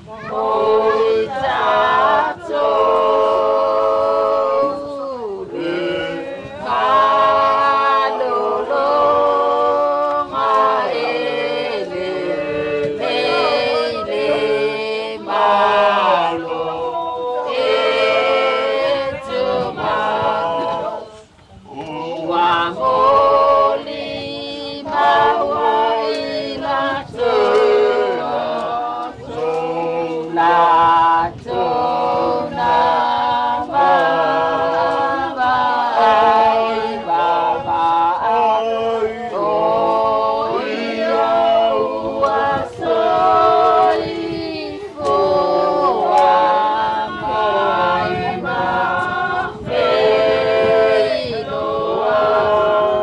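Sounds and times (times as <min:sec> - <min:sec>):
group singing a hymn: 0:00.0 - 0:53.0.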